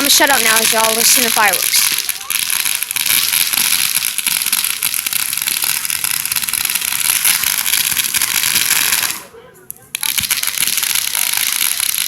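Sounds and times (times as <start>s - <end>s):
fireworks crackling densely: 0.0s - 12.0s.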